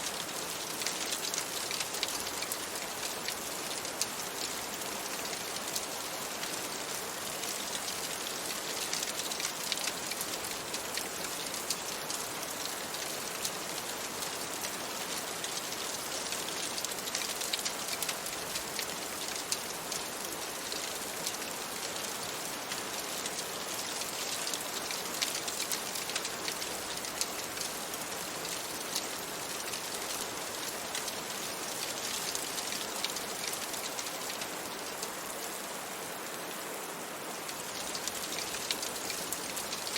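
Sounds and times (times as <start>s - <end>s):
rain falling against window: 0.0s - 39.9s.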